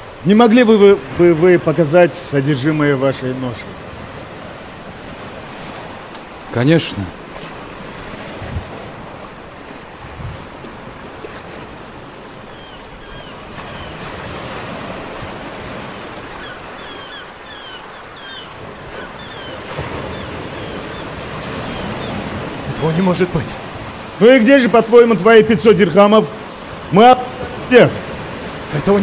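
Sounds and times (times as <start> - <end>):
waves washing in: 0.0 - 29.0.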